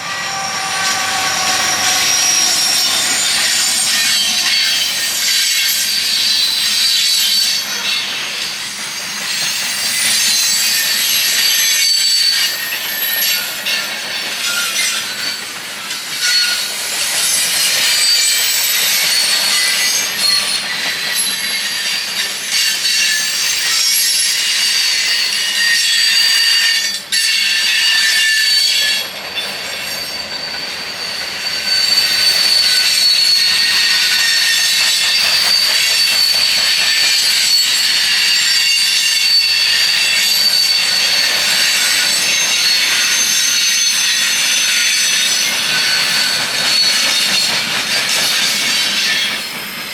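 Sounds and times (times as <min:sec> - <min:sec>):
train wheels squealing on rails: 0:00.0 - 0:49.9.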